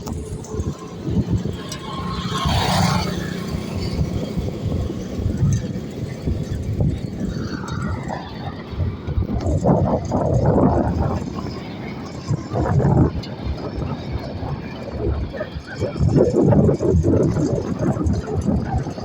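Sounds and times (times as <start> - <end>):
low traffic rumble: 0.0 - 19.0
motor vehicle passing: 0.0 - 19.0.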